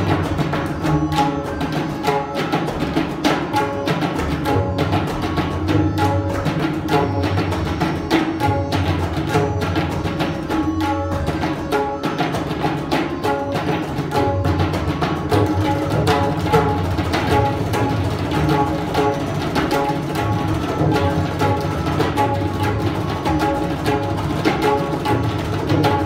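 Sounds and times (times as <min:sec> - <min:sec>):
tabla drumming: 0:00.0 - 0:26.0.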